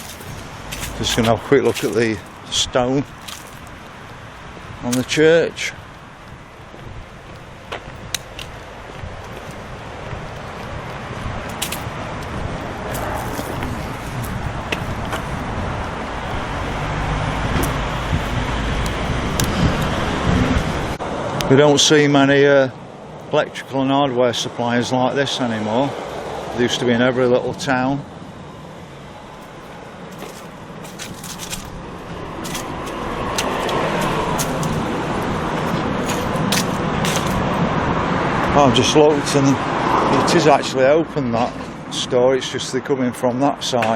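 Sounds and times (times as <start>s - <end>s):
cars rumbling along street: 0.0s - 43.9s
vehicle engine and tyre noise: 0.0s - 43.9s.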